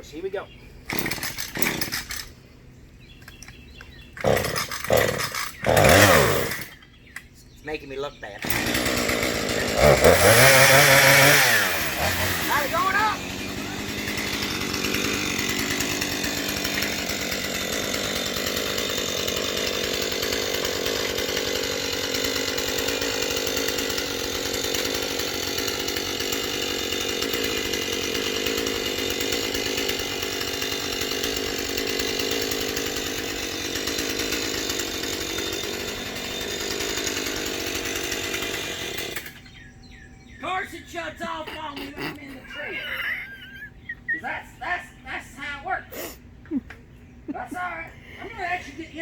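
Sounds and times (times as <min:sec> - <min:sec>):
chainsaw running: 0:00.1 - 0:02.4, 0:03.3 - 0:06.8, 0:08.4 - 0:44.3, 0:45.8 - 0:49.0.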